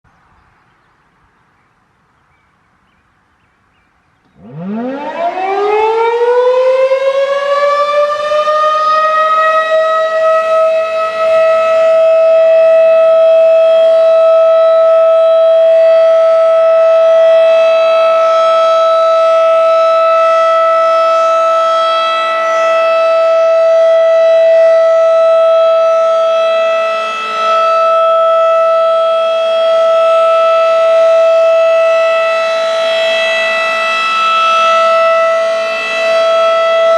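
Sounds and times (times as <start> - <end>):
warning siren winding up: 4.2 - 36.9.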